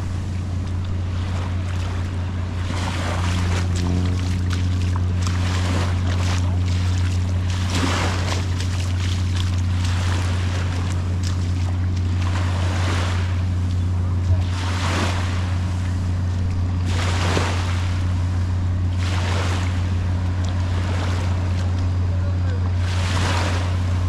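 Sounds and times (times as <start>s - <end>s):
boat motor humming: 0.0s - 24.0s
small waves washing onto sand: 0.0s - 24.0s.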